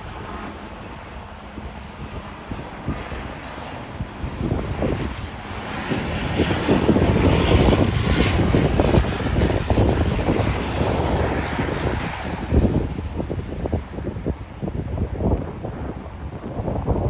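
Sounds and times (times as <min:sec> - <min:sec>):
aircraft engines passing: 0:00.0 - 0:17.0
wind buffeting microphone: 0:00.0 - 0:17.0.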